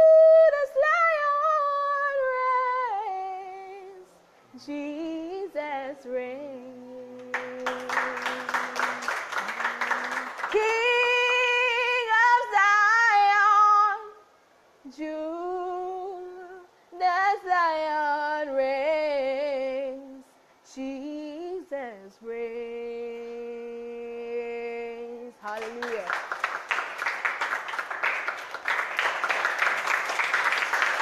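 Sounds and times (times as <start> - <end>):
woman singing unaccompanied: 0.0 - 26.2.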